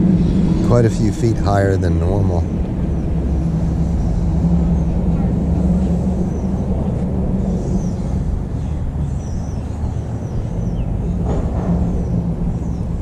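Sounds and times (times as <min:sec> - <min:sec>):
birds chirping: 0:00.0 - 0:13.0
low engine drone: 0:00.0 - 0:13.0.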